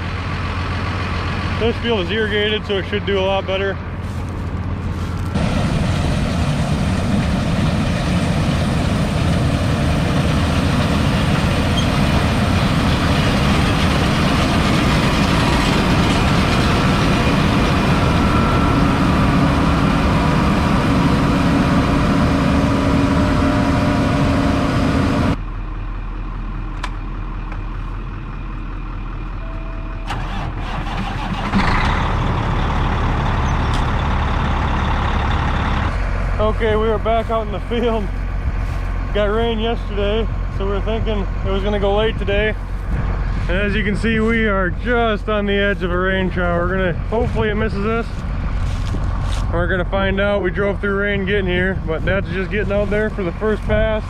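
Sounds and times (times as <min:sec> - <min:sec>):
combine harvester machinery drone: 0:00.0 - 0:54.0.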